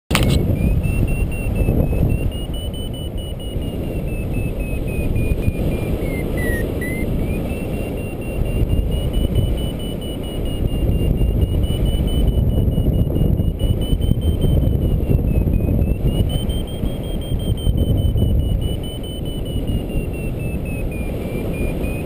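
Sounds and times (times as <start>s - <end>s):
variometer beeping: 0.1s - 22.0s
wind rushing on microphone: 0.1s - 22.0s.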